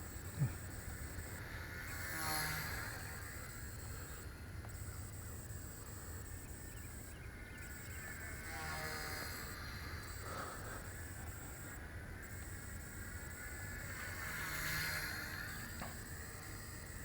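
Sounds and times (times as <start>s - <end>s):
rc helicopter rotor whine: 0.0s - 17.0s.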